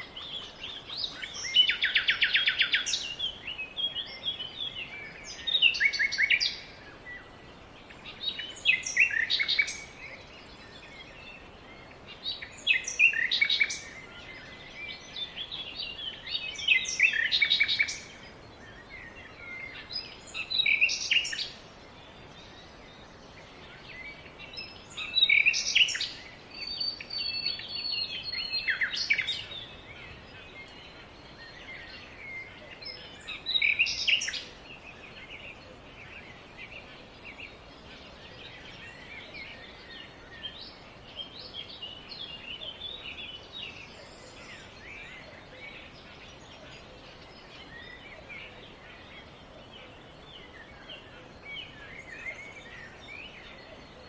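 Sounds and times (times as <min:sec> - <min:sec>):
faint background hiss: 0:00.0 - 0:54.0
songbird singing: 0:00.0 - 0:54.0.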